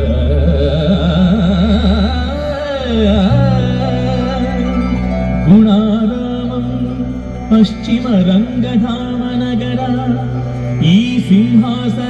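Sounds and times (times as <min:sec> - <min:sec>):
person singing ornamented melody: 0:00.0 - 0:12.0
steady drone: 0:00.0 - 0:12.0.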